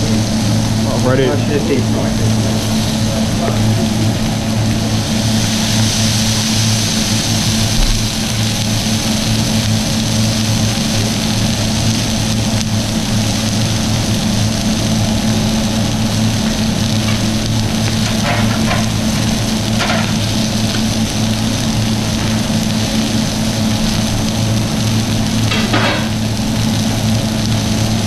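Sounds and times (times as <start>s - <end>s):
food sizzling on griddle: 0.0s - 28.0s
mechanical hum: 0.0s - 28.0s.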